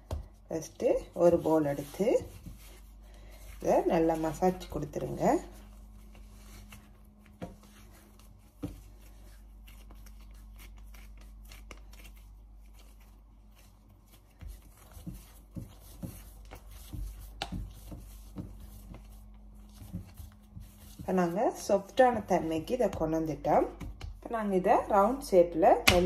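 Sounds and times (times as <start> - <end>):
hands patting dough: 0.0 - 24.6.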